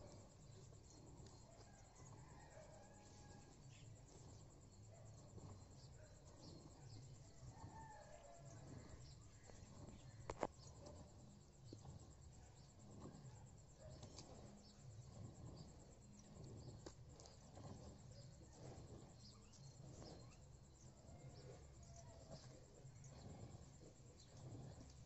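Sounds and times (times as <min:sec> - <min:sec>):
soft bird chirps: 0:00.5 - 0:25.0.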